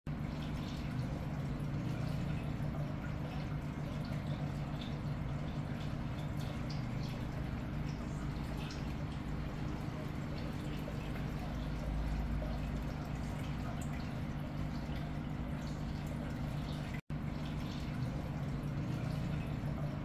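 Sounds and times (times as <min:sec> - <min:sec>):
steady low hum: 0:00.1 - 0:20.0
water trickling and bubbling: 0:00.1 - 0:20.0.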